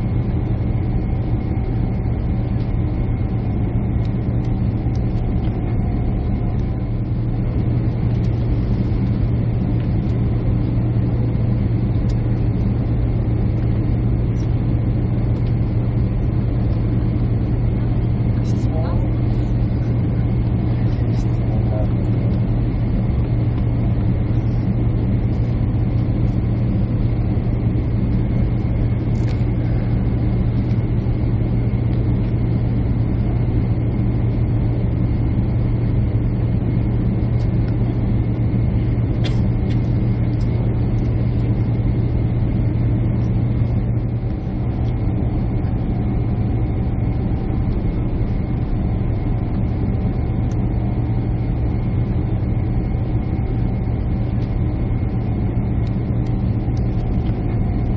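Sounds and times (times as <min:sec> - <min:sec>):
airliner cabin engine drone: 0:00.0 - 0:57.9.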